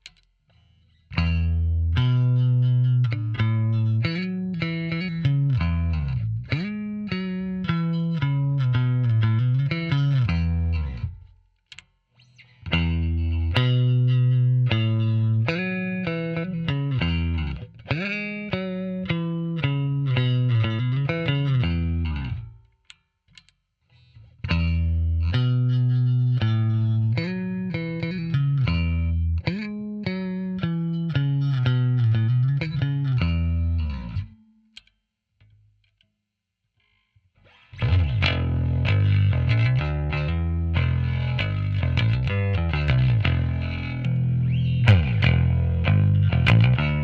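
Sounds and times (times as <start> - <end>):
electric bass riffs: 1.0 - 22.7, 24.2 - 34.5, 37.4 - 47.0.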